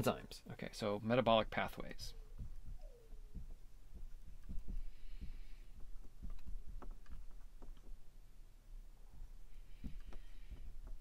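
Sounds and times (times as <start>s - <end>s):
steady low hum: 0.3s - 11.0s.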